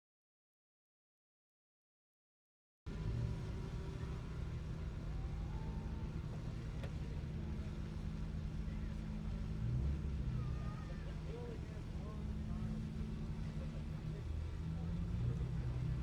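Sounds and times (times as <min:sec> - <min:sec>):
truck engine running: 0:02.9 - 0:16.0.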